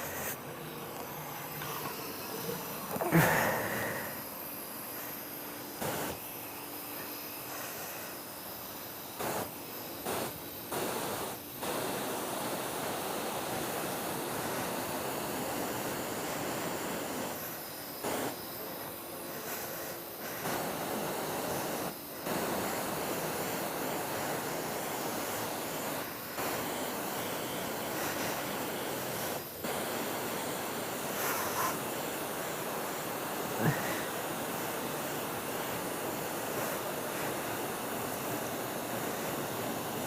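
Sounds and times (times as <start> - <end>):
high-pressure water spray hissing: 0.0 - 40.0.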